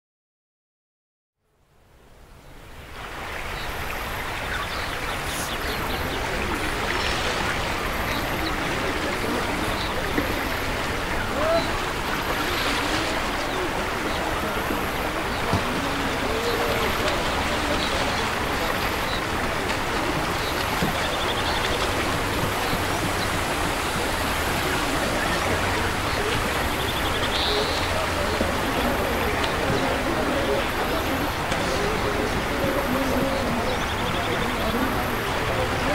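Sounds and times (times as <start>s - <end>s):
river water rushing: 1.7s - 35.9s.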